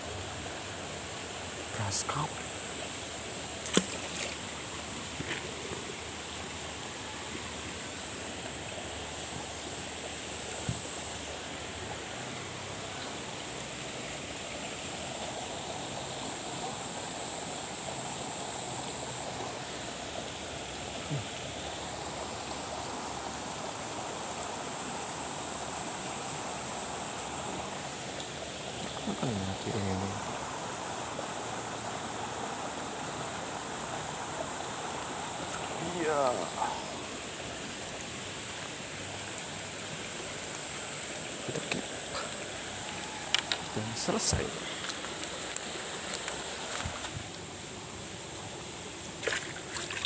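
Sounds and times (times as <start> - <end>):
rushing water: 0.0 - 50.0.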